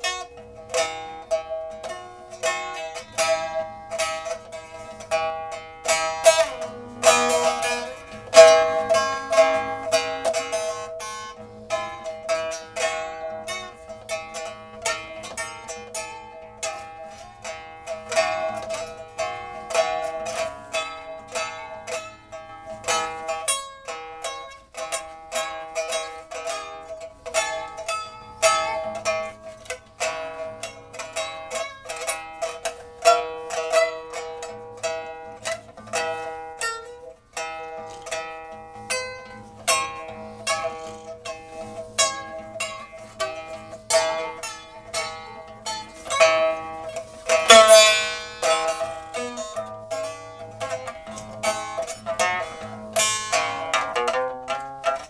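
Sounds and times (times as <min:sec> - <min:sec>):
plucked zither music: 0:00.0 - 0:55.0.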